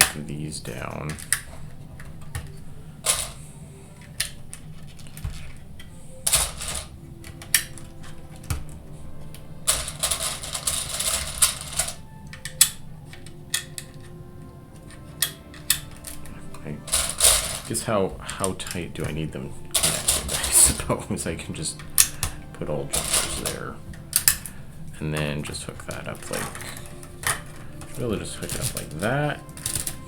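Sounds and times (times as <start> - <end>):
loose plastic pieces rattling: 0.0 - 30.0
plastic bricks clicking: 0.0 - 30.0.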